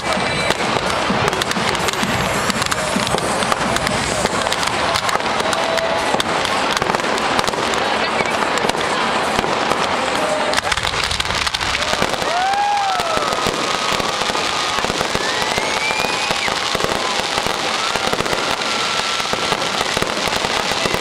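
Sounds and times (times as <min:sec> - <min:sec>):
fireworks bangs and crackling: 0:00.0 - 0:21.0
fireworks whistling: 0:00.0 - 0:21.0.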